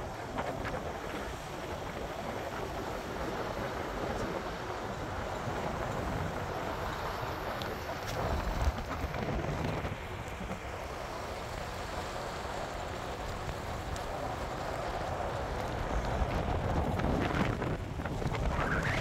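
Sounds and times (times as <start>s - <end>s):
wind buffeting microphone: 0.0s - 19.0s
tyres rumbling on gravel road: 0.1s - 19.0s.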